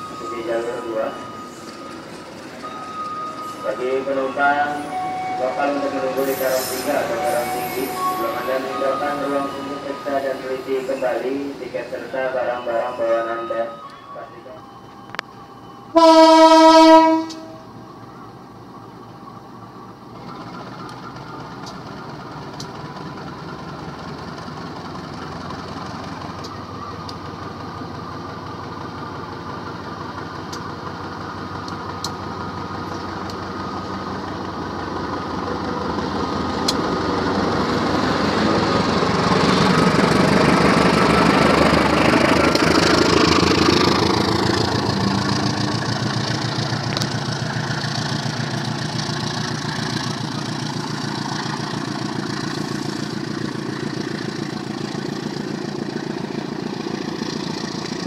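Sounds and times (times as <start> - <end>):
diesel locomotive engine running: 0.0 - 58.0
train coaches rolling by: 0.0 - 58.0.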